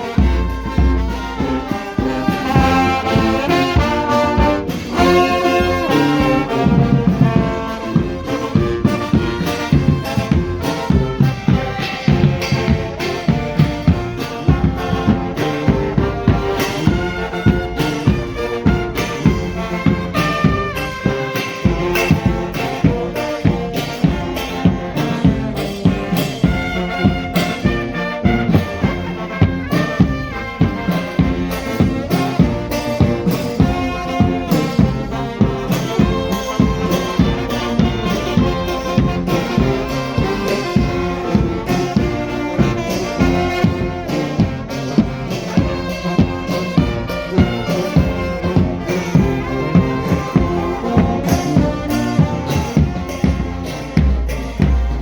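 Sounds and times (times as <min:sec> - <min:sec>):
steady drum beat: 0:00.0 - 0:55.0
trumpets and trombones: 0:00.0 - 0:55.0.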